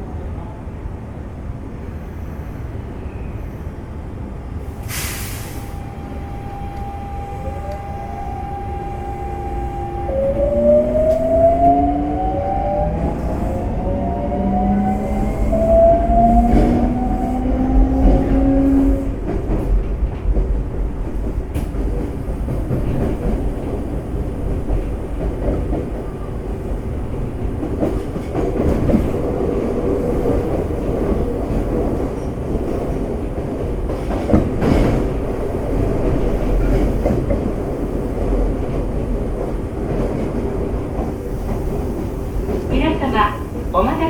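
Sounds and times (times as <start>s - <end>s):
train rumbling at low speed: 0.0s - 44.0s.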